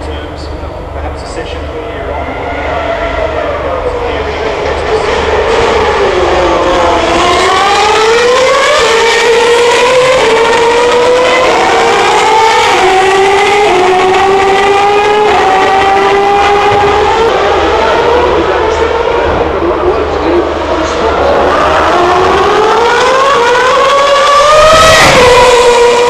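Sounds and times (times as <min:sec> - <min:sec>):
racing car engine at high revs: 0:00.0 - 0:26.0.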